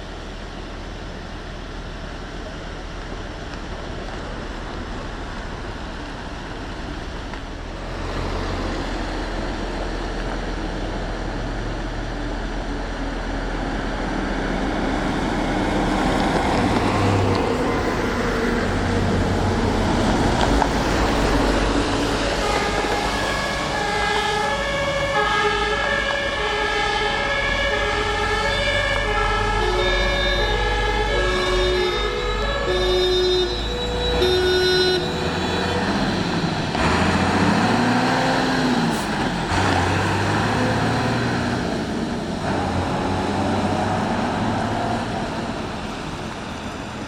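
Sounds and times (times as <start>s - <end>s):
vehicle engines approaching: 0.0s - 47.0s.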